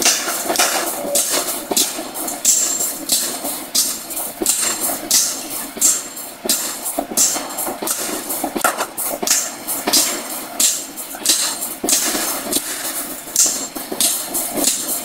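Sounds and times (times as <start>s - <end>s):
forging hammer striking steel: 0.0s - 15.0s
workshop noise: 0.0s - 15.0s.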